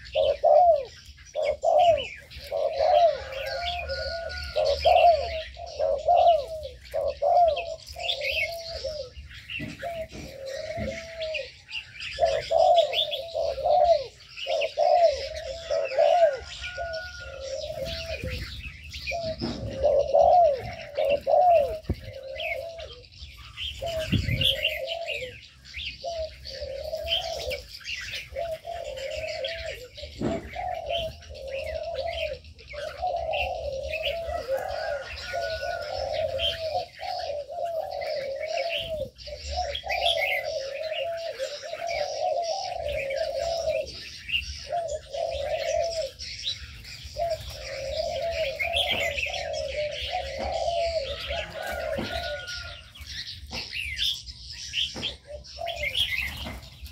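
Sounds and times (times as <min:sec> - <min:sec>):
doves cooing: 0:00.0 - 0:56.9
small birds chirping: 0:00.0 - 0:56.9.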